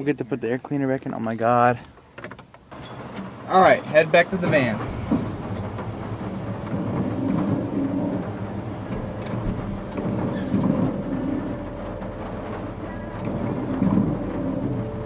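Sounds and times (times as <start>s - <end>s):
truck engine rumbling: 1.2s - 15.0s.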